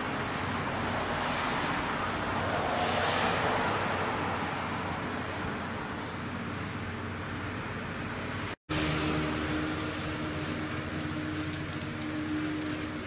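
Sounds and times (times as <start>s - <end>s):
engine humming: 0.0s - 13.0s
outdoor background noise: 0.0s - 13.0s.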